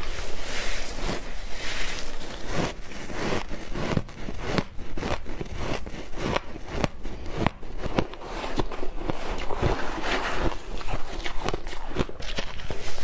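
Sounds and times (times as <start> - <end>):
ice crunching while chewed: 0.0 - 13.0.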